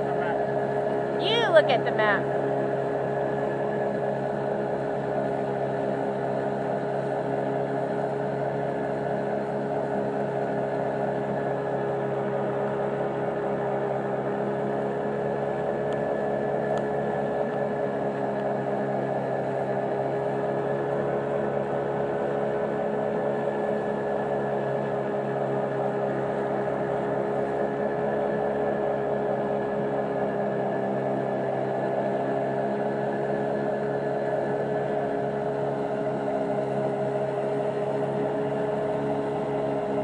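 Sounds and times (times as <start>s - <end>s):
boat engine droning hum: 0.0s - 40.0s.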